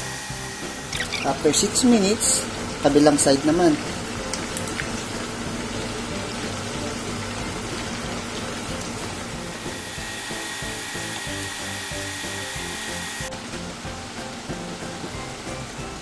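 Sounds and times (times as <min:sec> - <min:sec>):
background music: 0:00.0 - 0:16.0
chicken deep-frying in oil: 0:00.0 - 0:16.0.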